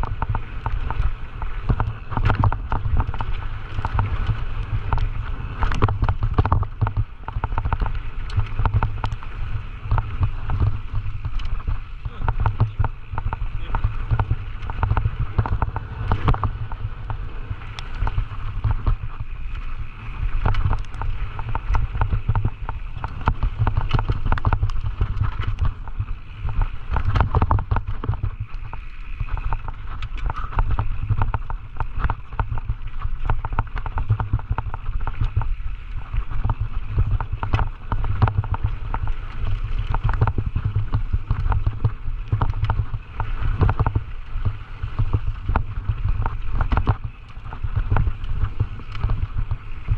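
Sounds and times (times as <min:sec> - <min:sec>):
bike chain and frame rattling: 0:00.0 - 0:49.9
wind rumble on microphone: 0:00.0 - 0:49.9.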